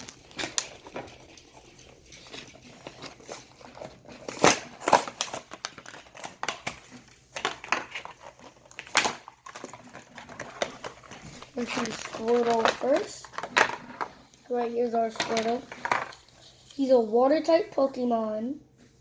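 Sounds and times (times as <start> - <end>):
packaging crinkling and rustling: 0.0 - 16.8.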